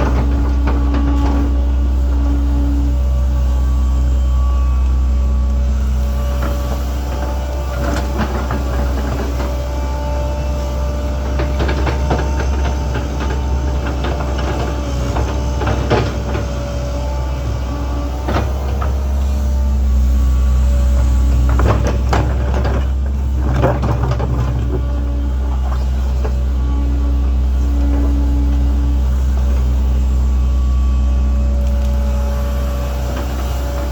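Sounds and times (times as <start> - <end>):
constant whine: 0.0 - 33.9
excavator diesel engine droning: 0.0 - 33.9.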